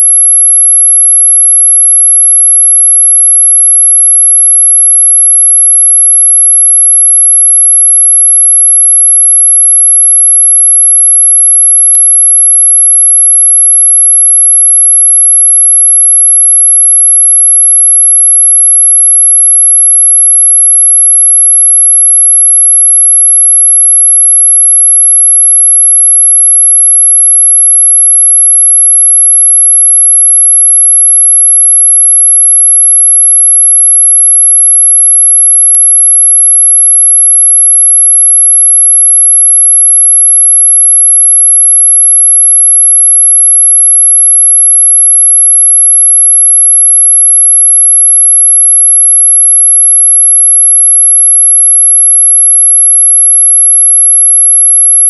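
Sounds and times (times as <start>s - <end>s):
high-pitched electronic sine tone: 0.0s - 55.0s.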